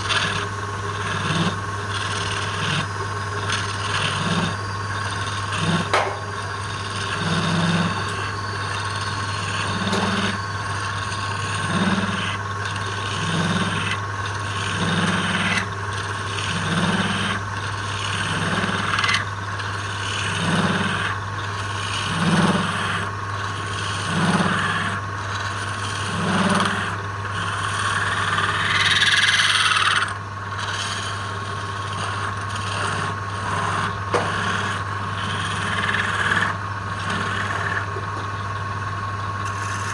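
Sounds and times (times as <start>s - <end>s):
tool scraping spinning wood: 0.0s - 39.9s
wood lathe humming: 0.0s - 39.9s.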